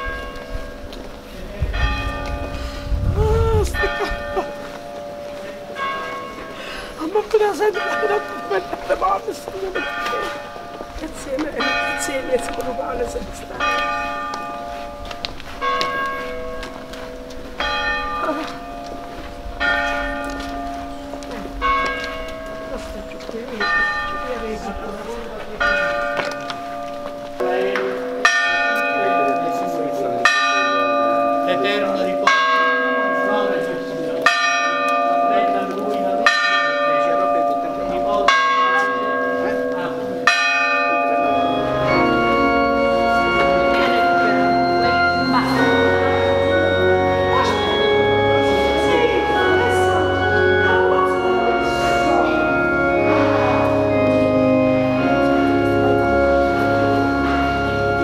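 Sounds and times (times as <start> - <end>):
church bell tolling: 0.0 - 58.0
organ music: 0.0 - 58.0.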